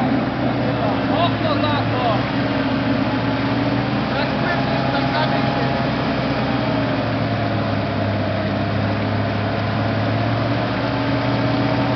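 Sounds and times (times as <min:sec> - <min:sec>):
engine running steadily: 0:00.0 - 0:11.9.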